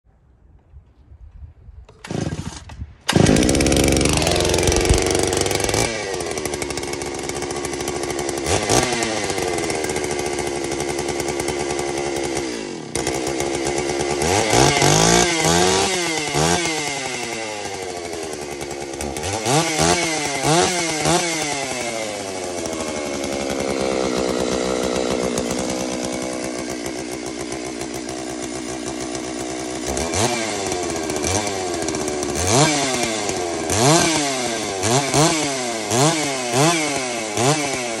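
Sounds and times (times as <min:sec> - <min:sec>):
chainsaw revving: 0:02.0 - 0:38.0.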